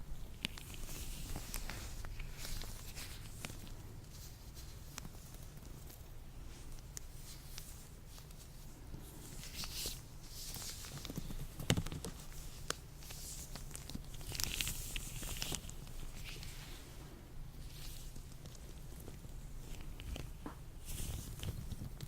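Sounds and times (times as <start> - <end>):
latex gloves rustling: 0.0 - 22.0.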